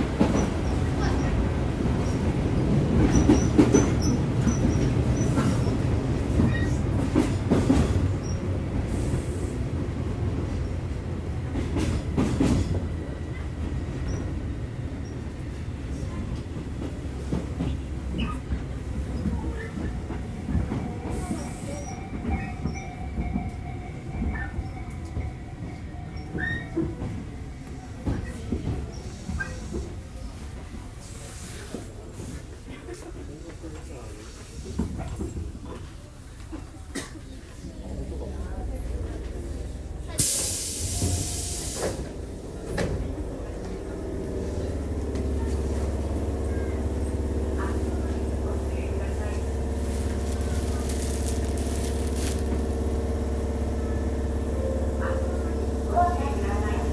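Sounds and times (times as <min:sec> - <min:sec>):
rail clicks: 0:00.0 - 0:30.7, 0:40.2 - 0:56.9
train running gear rumble: 0:00.0 - 0:56.9.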